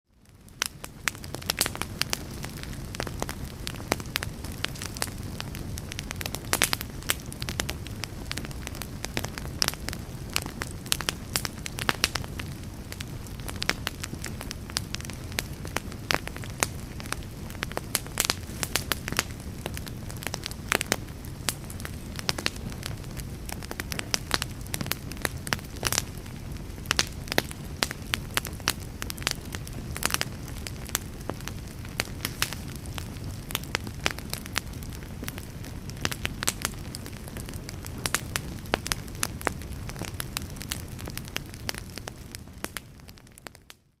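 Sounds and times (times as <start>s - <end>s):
campfire rumble and hiss: 0.1s - 44.0s
fire popping and snapping: 0.2s - 43.8s.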